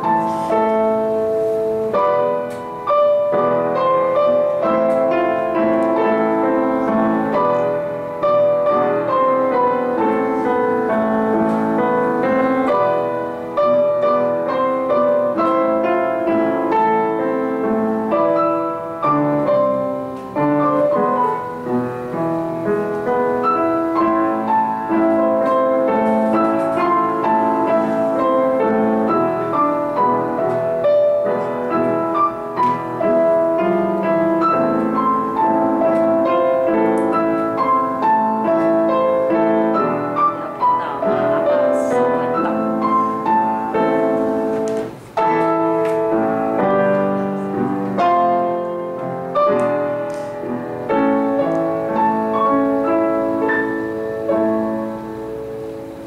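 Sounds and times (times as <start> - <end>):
piano duet: 0.0 - 56.0.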